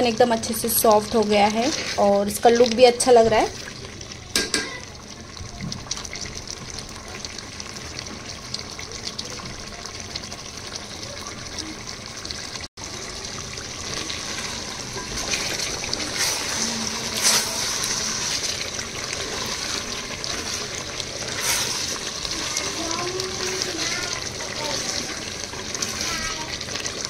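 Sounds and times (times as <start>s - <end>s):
food sizzling in a pan: 0.0s - 27.0s.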